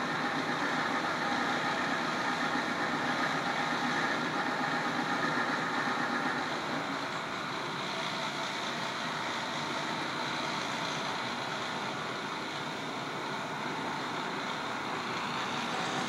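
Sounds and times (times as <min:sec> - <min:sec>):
power washer engine drone: 0:00.0 - 0:16.0.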